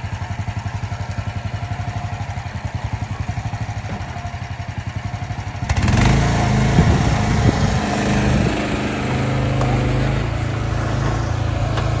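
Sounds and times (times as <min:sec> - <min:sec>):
excavator engine running hard: 0:00.0 - 0:12.0.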